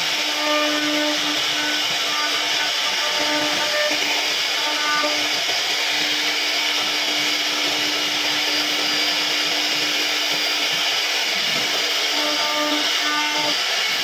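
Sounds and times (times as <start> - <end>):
router spindle cutting wood: 0.0 - 14.0.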